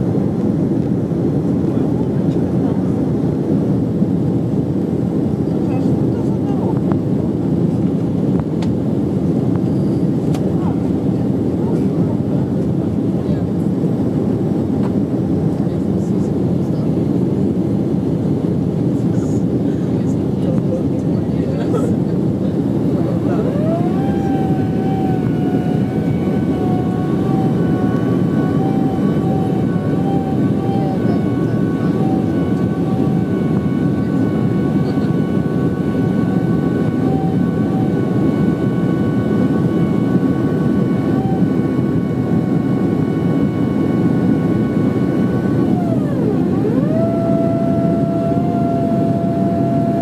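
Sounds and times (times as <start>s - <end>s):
jet engines heard from cabin: 0.0s - 50.0s.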